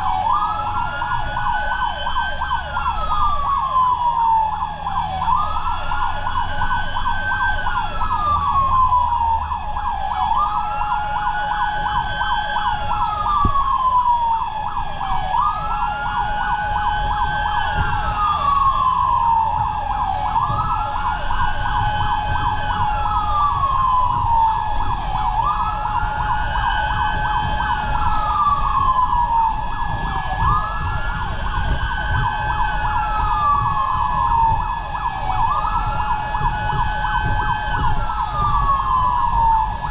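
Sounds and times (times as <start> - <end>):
fire truck siren wailing: 0.0 - 39.9
truck engine rumble: 0.0 - 39.9.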